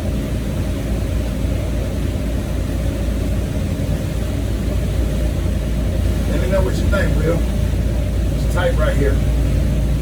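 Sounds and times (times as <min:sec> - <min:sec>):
motor boat engines droning: 0:01.4 - 0:10.0.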